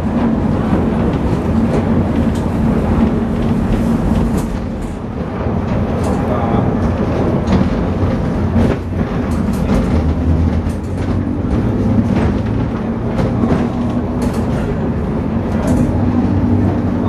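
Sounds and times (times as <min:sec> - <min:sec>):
tram rumble and motor hum: 0:00.0 - 0:17.0.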